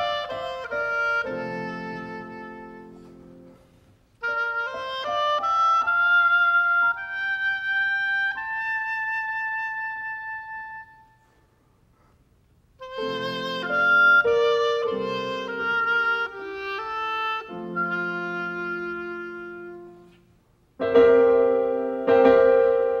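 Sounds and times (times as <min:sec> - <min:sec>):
oboe playing: 0:00.0 - 0:11.4, 0:12.8 - 0:23.0
piano: 0:00.0 - 0:23.0.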